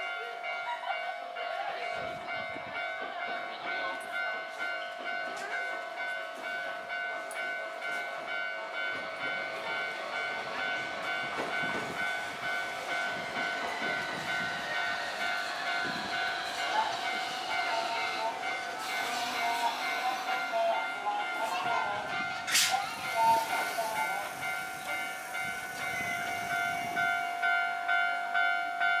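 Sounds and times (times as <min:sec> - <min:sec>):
level crossing warning bell: 0:00.0 - 0:29.0
tram wheel rumble: 0:00.0 - 0:29.0.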